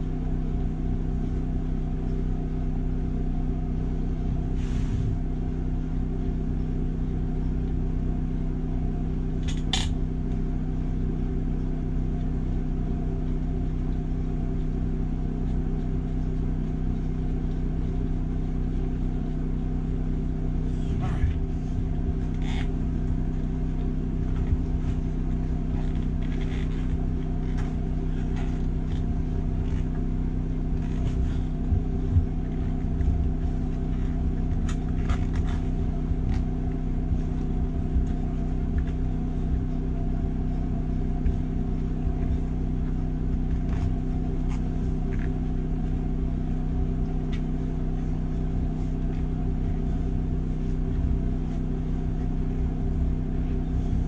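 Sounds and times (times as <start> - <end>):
machine hum with low rumble: 0.0 - 54.0.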